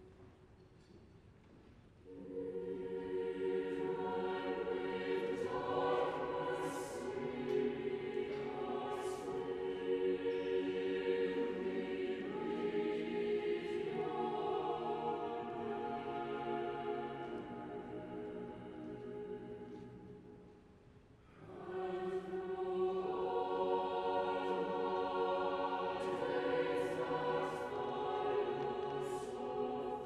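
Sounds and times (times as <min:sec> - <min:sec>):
choir singing sustained chords: 0:02.0 - 0:20.6, 0:21.3 - 0:30.0.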